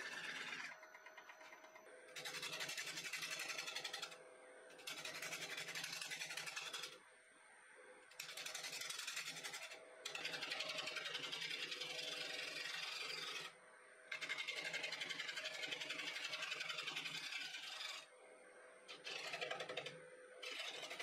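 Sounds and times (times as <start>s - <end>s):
turning tool cutting wooden bowl: 0.0s - 4.2s, 4.8s - 7.0s, 8.1s - 18.1s, 18.9s - 21.0s
lathe motor hum: 0.0s - 4.9s, 8.4s - 21.0s.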